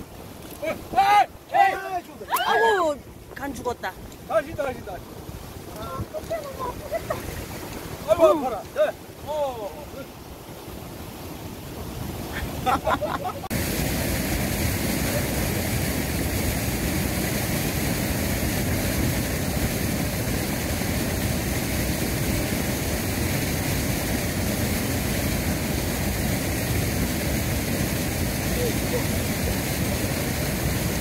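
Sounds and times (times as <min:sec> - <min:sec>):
surf washing over shore: 0:00.0 - 0:31.0.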